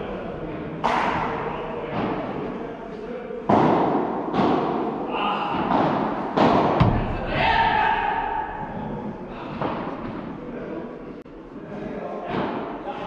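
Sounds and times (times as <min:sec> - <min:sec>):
rackets hitting ball in hall: 0:00.0 - 0:13.0.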